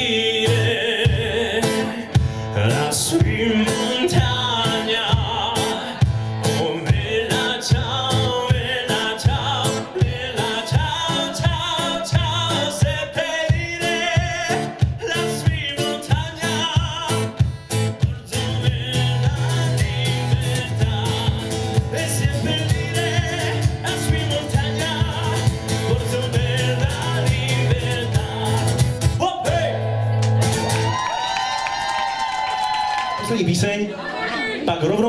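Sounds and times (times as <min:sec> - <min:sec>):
man singing: 0:00.0 - 0:30.0
strummed acoustic guitar: 0:00.0 - 0:30.9.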